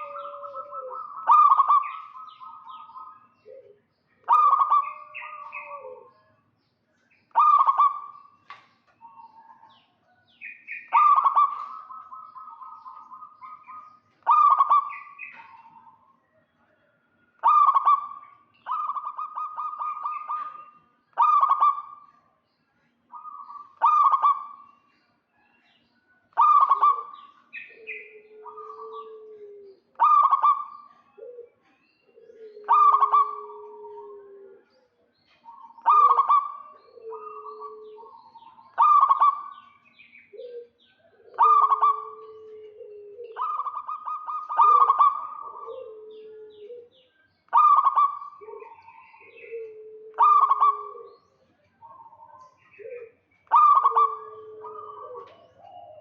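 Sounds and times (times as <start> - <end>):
dove rolling coos: 0.0 - 6.1, 7.4 - 8.2, 10.7 - 16.0, 17.4 - 22.1, 23.1 - 24.7, 26.4 - 56.0.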